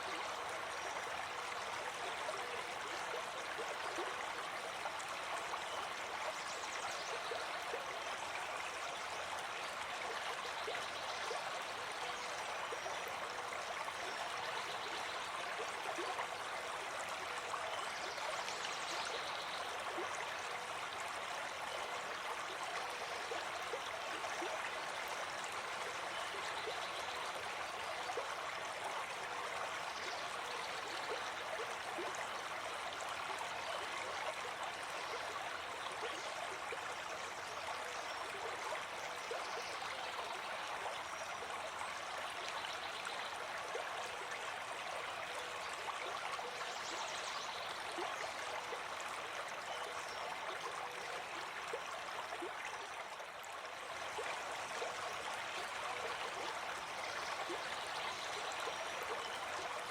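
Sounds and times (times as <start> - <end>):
small splashes and trickles: 0.0 - 59.9.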